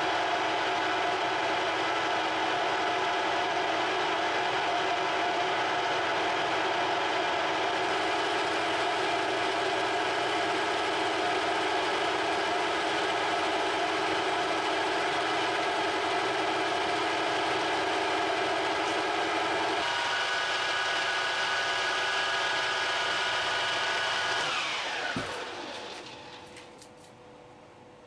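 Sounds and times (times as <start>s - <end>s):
metal lathe whining: 3.8s - 26.5s.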